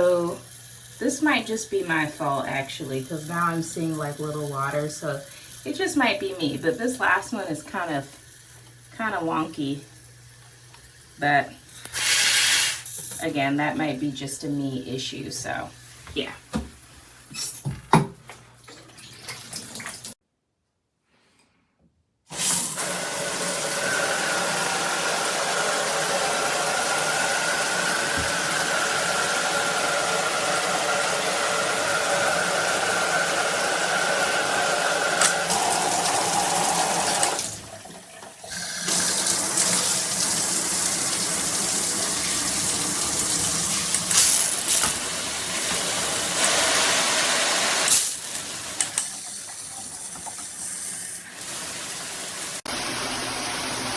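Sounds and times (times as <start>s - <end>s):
shower spraying water: 0.0s - 17.7s, 22.3s - 53.9s.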